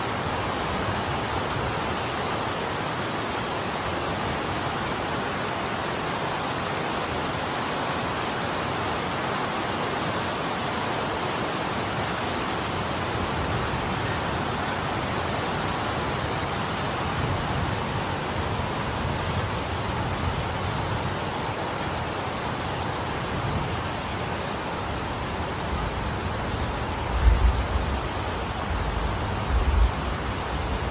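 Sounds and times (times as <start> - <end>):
wind rumbling on microphone: 0.0 - 30.9.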